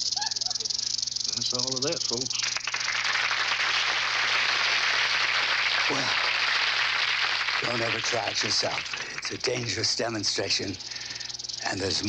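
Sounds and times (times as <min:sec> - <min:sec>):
rattlesnake rattle buzzing: 0:00.0 - 0:12.0.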